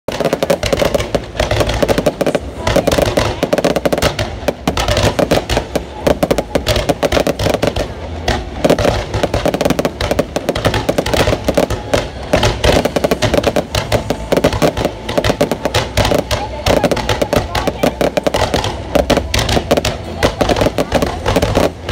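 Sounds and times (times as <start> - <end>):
fireworks crackling and banging: 0.1 - 21.9.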